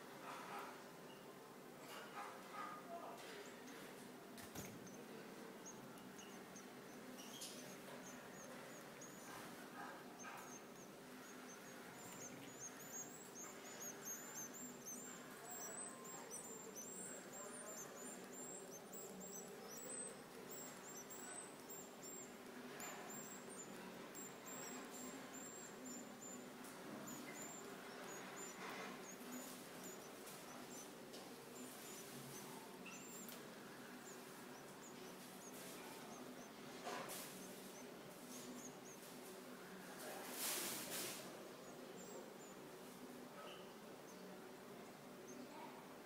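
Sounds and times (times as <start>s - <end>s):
nestlings cheeping: 2.4s - 46.0s.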